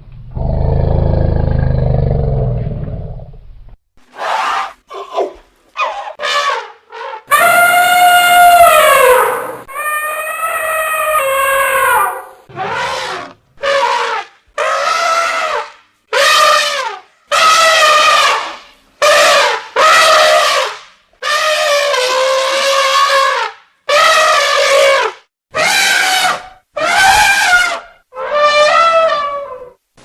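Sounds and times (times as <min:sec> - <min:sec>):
elephant trumpeting: 0:04.1 - 0:29.8.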